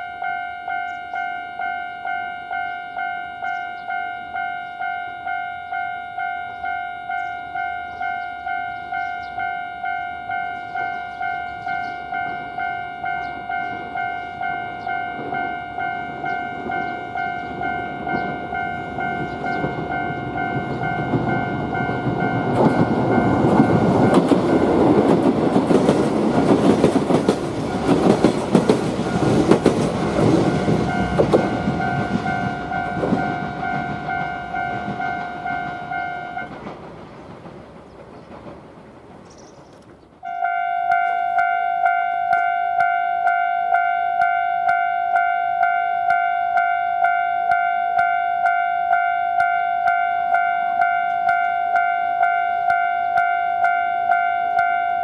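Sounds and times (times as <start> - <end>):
crossing alarm bell dinging: 0.0 - 37.4, 40.2 - 55.0
train rumble and wheel clatter: 3.4 - 55.0.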